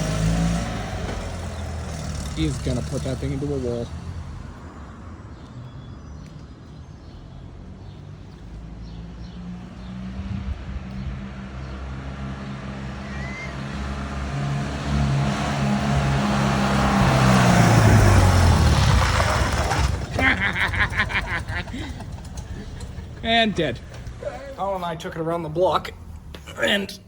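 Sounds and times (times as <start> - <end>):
small car engine approaching: 0.0 - 26.5.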